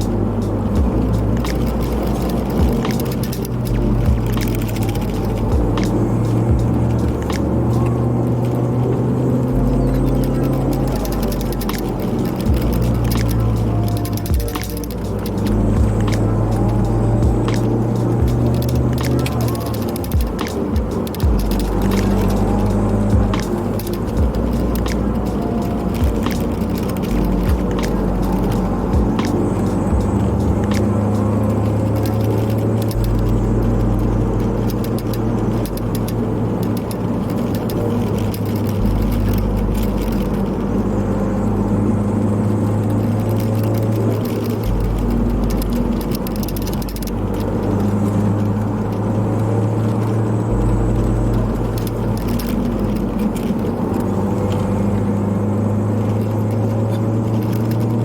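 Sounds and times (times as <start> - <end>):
car engine running: 0.0 - 58.0
lo-fi hip-hop music: 0.0 - 58.0
tyre and road noise: 0.0 - 58.0.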